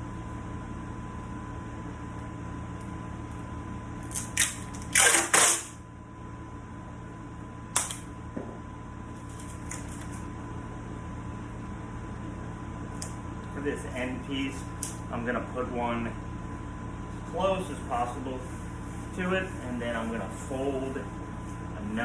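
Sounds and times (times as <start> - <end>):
fan hum: 0.0 - 22.0.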